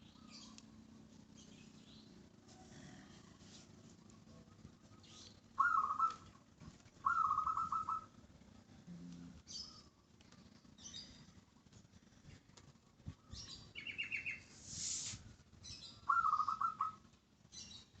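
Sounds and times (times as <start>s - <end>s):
songbirds chirping and trilling: 0.0s - 18.0s.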